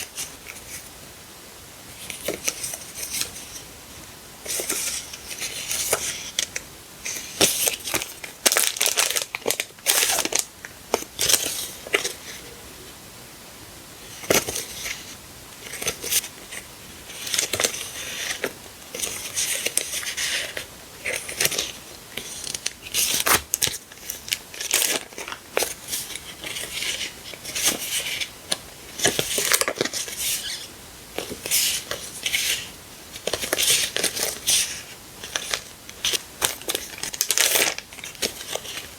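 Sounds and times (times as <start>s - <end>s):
packaging crinkling and rustling: 4.5s - 12.5s, 14.2s - 38.9s.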